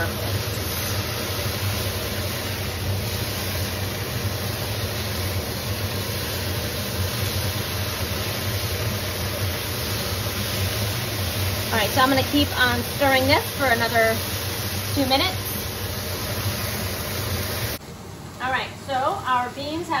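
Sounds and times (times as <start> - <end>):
green beans sizzling in a skillet: 0.0 - 17.8
low gas flame hum: 0.0 - 20.0.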